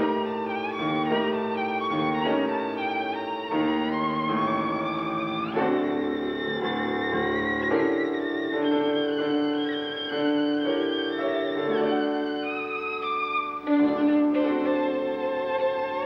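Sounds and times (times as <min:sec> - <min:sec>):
violin playing long notes: 0:00.0 - 0:16.0.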